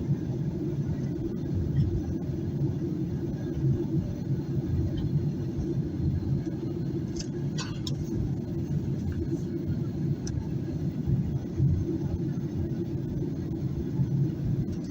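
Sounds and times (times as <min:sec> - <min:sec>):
airplane cabin rumble: 0:00.0 - 0:14.9.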